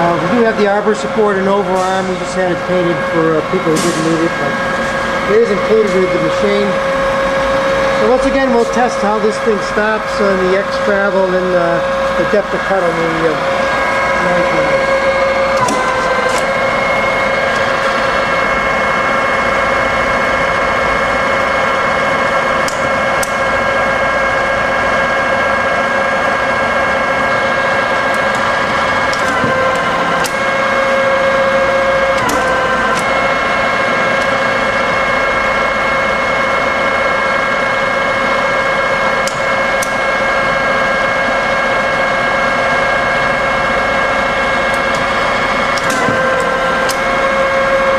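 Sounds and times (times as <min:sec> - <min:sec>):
milling machine whine: 0:00.0 - 0:47.9.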